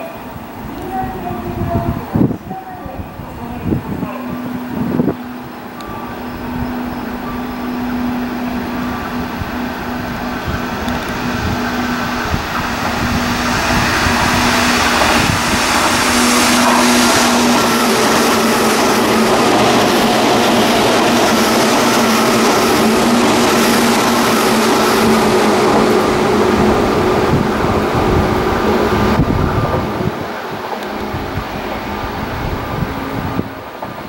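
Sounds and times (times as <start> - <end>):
train motor hum: 0.0 - 34.0
train wheels rumbling on rails: 0.0 - 34.0.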